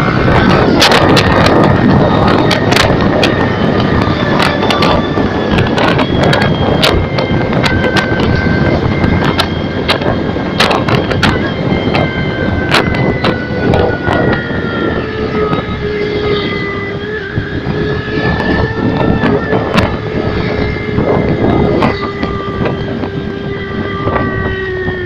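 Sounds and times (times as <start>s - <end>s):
sharp exhaust crackles: 0.0s - 25.0s.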